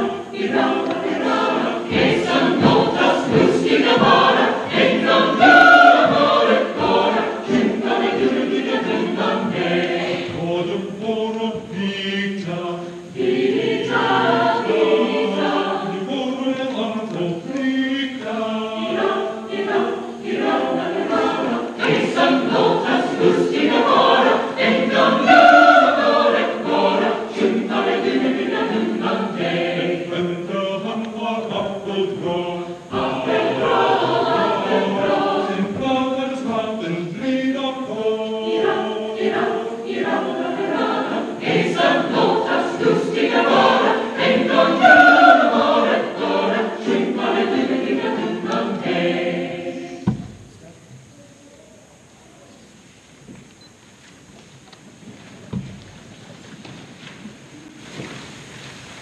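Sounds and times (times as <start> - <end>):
mixed choir singing: 0.0 - 50.5.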